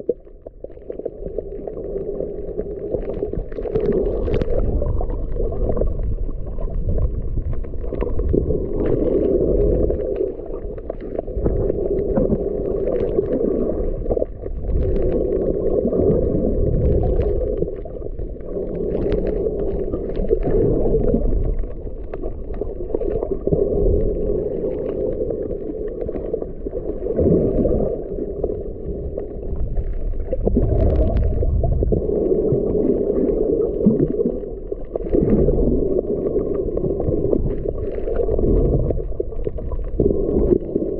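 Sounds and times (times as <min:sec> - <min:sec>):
underwater rumble and gurgle: 0:00.0 - 0:40.9.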